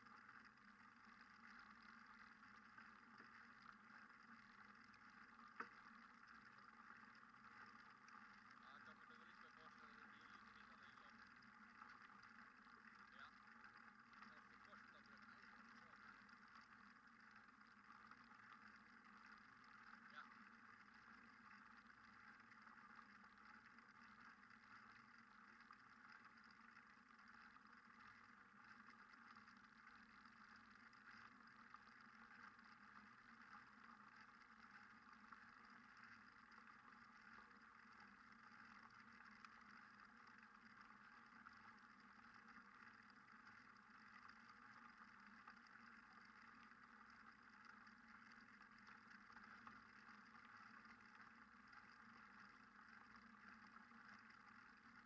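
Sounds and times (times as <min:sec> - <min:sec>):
faint steady hum and hiss: 0:00.0 - 0:55.0.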